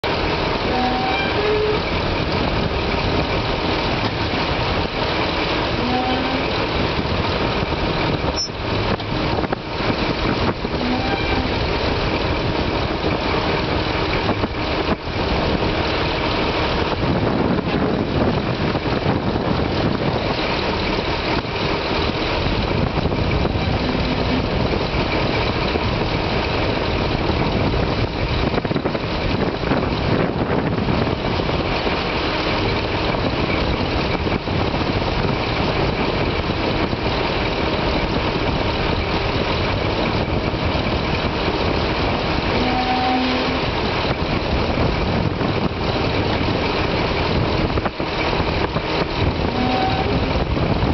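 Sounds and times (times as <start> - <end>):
diesel engine drone: 0.0 - 50.9.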